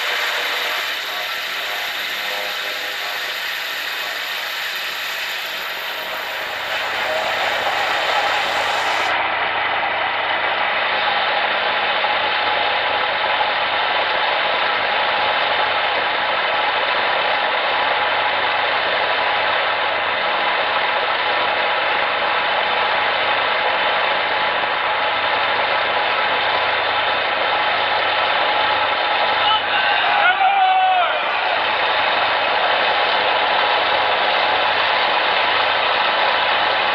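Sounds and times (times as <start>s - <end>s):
rotor and engine rush: 0.0s - 29.7s, 31.2s - 36.9s
helicopter turbine whine: 0.0s - 36.9s.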